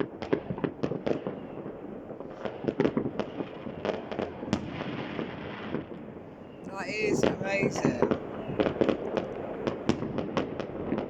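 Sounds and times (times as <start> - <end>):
fireworks bangs and pops: 0.0 - 11.0
fireworks crackle: 0.0 - 11.0.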